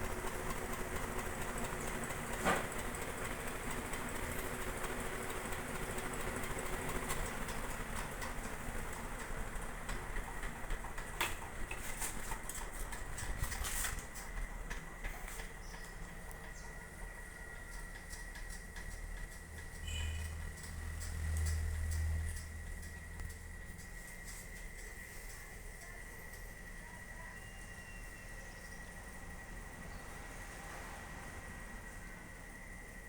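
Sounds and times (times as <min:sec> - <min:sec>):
fan clicking and ticking: 0:00.0 - 0:26.8
ceiling fan motor humming: 0:00.0 - 0:33.0.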